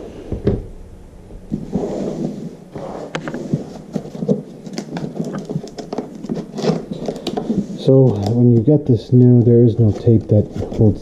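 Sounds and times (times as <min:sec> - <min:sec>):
packaging rustling: 0:01.5 - 0:11.0.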